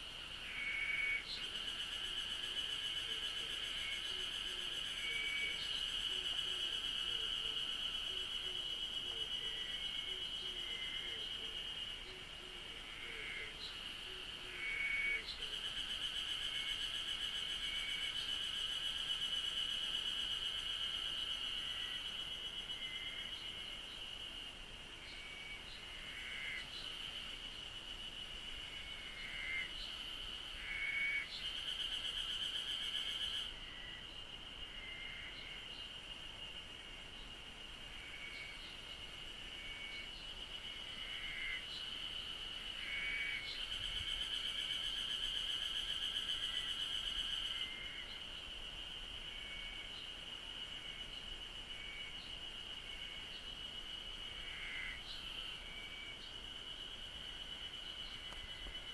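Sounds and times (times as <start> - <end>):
cicadas singing: 0.0 - 58.9
short repeated insect calls: 0.0 - 58.9.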